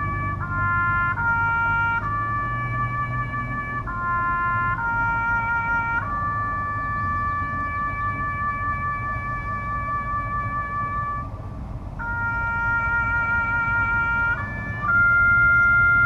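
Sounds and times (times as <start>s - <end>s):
solo trumpet playing slow call: 0.0s - 11.3s, 12.0s - 16.0s.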